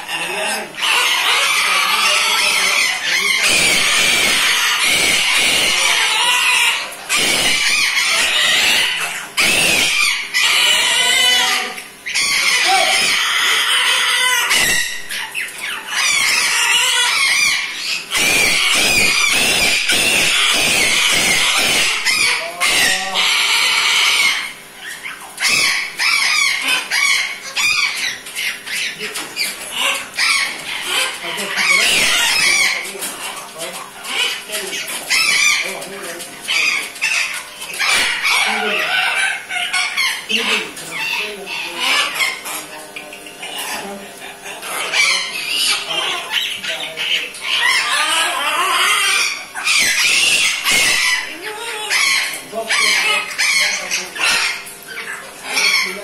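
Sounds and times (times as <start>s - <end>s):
cockatoo harsh squawks: 0.0s - 56.0s
parrots screeching: 0.0s - 56.0s.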